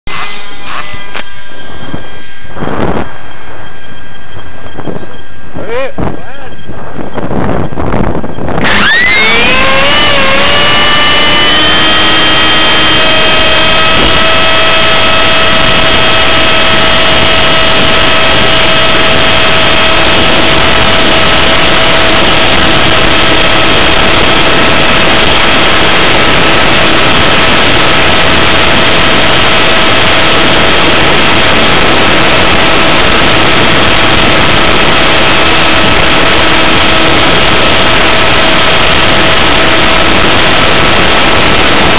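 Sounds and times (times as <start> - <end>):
electric motor whine: 0.1 - 5.6, 6.7 - 41.9
rush of air noise: 0.1 - 41.9.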